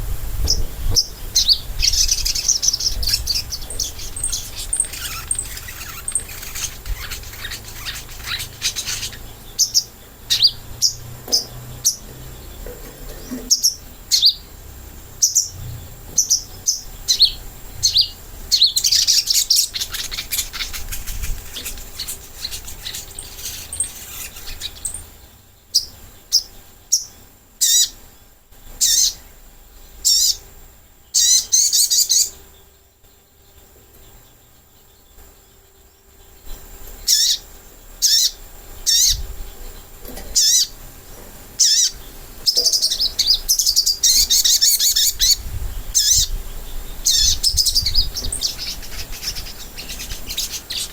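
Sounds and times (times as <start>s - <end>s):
songbird trilled chirps: 0.4s - 50.9s.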